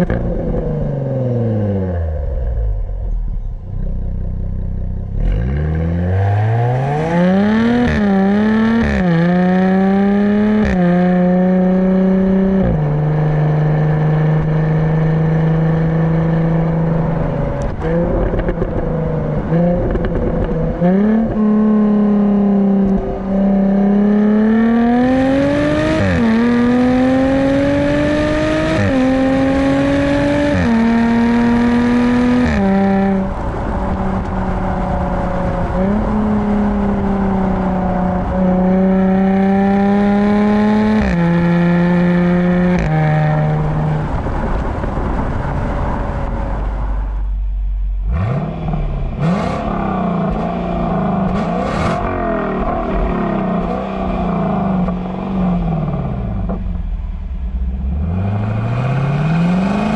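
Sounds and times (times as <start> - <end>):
car engine revving through upshifts: 5.1 - 44.2, 48.0 - 56.8, 57.7 - 59.9.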